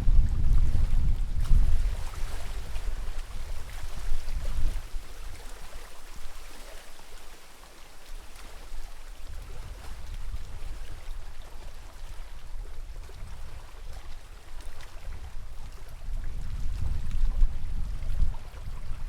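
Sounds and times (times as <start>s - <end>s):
lake water lapping: 0.2s - 19.0s.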